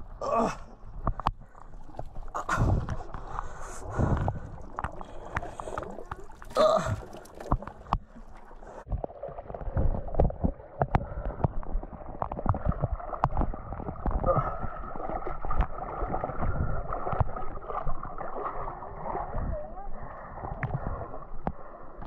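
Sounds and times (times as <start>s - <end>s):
stream water sloshing: 0.9s - 19.5s.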